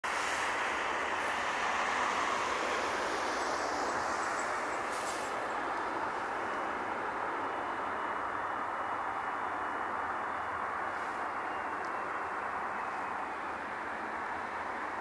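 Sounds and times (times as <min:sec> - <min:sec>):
jet engines roaring: 0:00.1 - 0:15.0.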